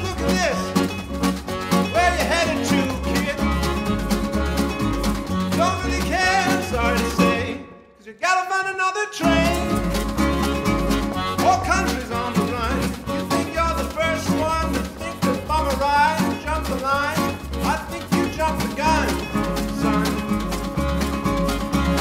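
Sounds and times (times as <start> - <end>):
bouncing bass line: 0.0 - 7.5, 9.2 - 22.0
accordion: 0.0 - 7.8, 9.2 - 22.0
acoustic guitars strumming: 0.0 - 7.9, 9.2 - 22.0.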